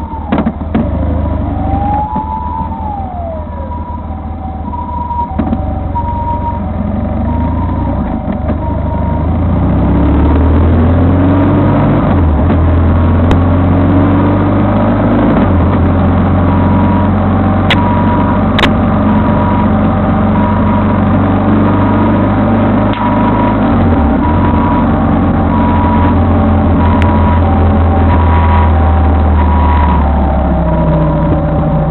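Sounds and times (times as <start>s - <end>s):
two-tone siren: 0.0s - 31.9s
vehicle engine drone: 0.0s - 31.9s.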